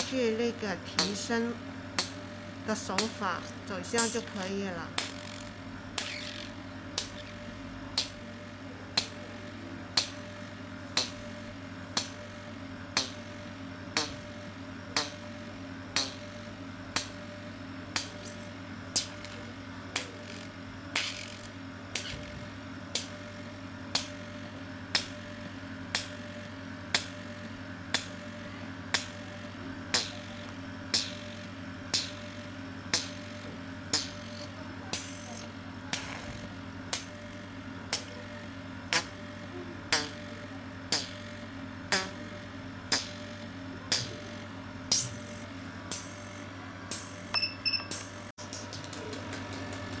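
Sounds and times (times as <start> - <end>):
machine humming: 0.0 - 50.0.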